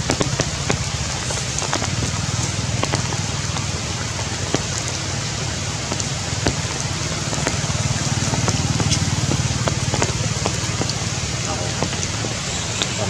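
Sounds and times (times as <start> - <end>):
heavy rain on leaves: 0.0 - 13.0
low steady rumble: 0.0 - 13.0
sharp drip taps: 0.0 - 13.0.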